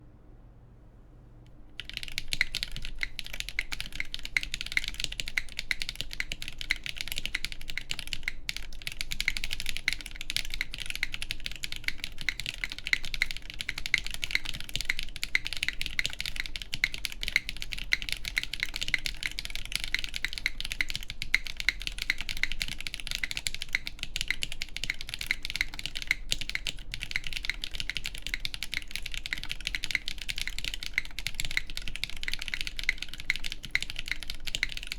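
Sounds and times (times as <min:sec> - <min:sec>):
mechanical keyboard typing: 0:01.8 - 0:34.9.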